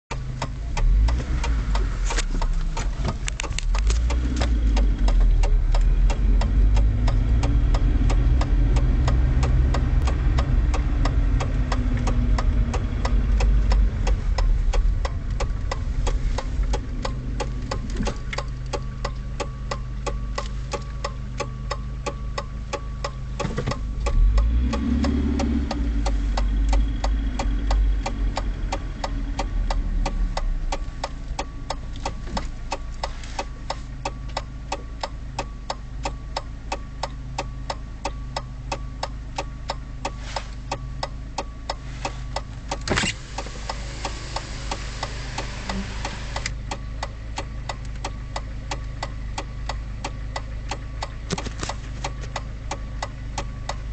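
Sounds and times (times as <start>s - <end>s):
car engine rumble from inside: 0.0s - 53.9s
fast even ticking: 0.1s - 53.9s.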